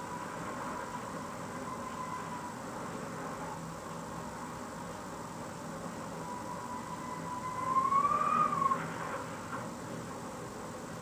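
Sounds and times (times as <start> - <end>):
wind whistling through window gap: 0.0 - 11.0.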